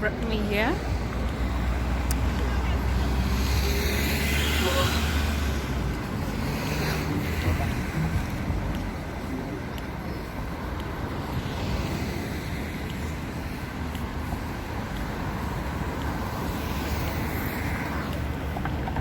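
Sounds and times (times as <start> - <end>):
low rumble of passing traffic: 0.0 - 19.0.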